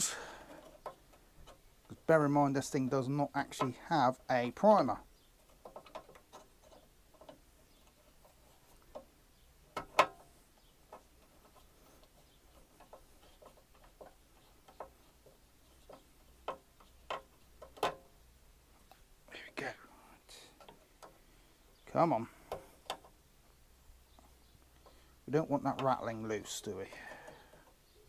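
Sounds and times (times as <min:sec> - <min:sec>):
light clicks of handling engine parts: 0:04.5 - 0:28.0.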